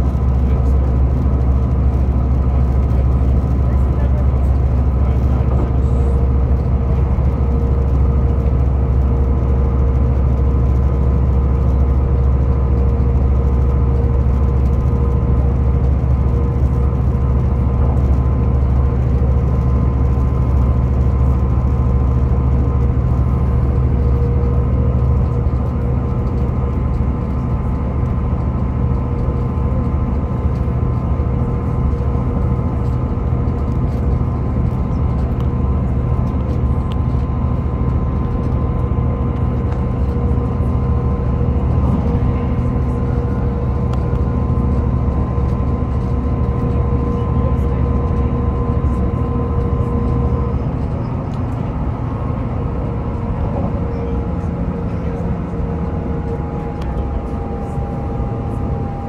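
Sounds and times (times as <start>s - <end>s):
diesel engine low hum: 0.0s - 59.0s
steady whine: 0.0s - 59.0s
wheels rumbling on rail: 0.0s - 59.0s.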